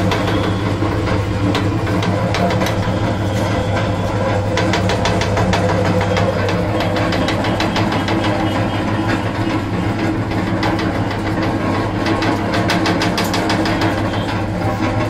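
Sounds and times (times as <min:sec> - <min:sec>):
motor hum: 0:00.0 - 0:15.0
rapid cutter clatter: 0:00.0 - 0:15.0.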